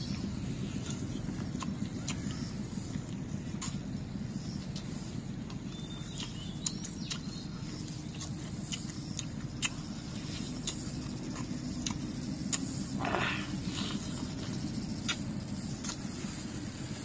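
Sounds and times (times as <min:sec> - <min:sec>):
chewing and lip smacks: 0:00.0 - 0:17.0
low background rumble: 0:00.0 - 0:17.0.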